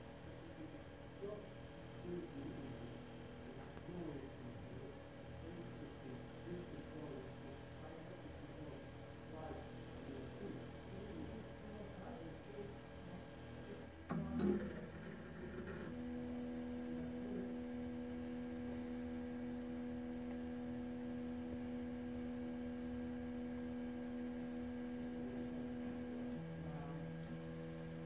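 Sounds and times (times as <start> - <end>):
spectrometer scan drive humming: 0.0 - 28.0.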